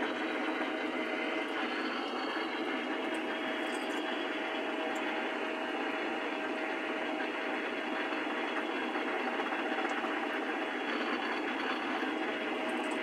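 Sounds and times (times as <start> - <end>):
constant hum: 0.0 - 13.0
metal lathe whirring: 0.0 - 13.0.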